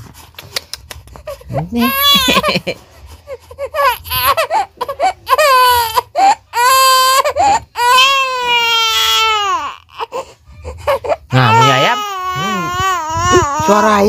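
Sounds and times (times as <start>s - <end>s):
baby crying: 1.3s - 2.6s, 3.3s - 14.0s.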